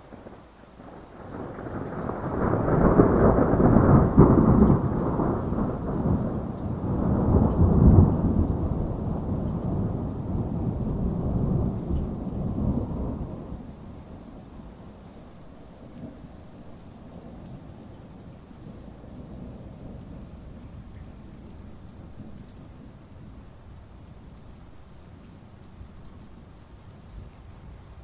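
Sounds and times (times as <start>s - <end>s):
steady rain: 0.0s - 28.0s
thunder rumbling: 0.3s - 23.4s.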